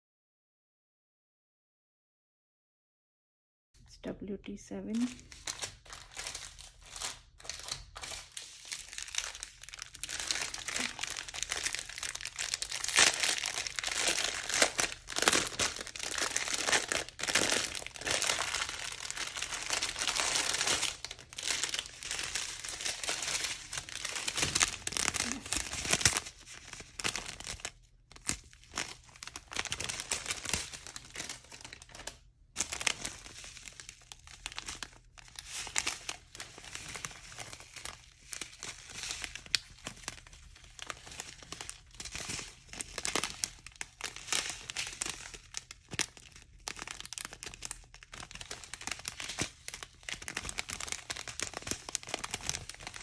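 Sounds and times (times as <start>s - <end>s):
plastic bags crinkling: 4.8s - 53.0s.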